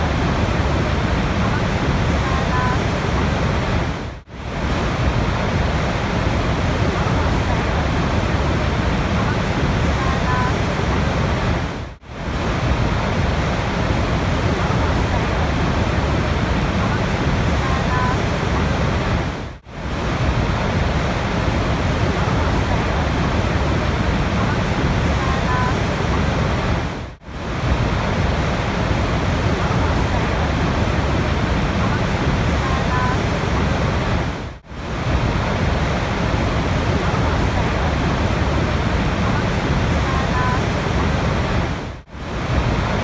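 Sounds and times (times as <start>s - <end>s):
rush of flowing water: 0.0s - 43.0s.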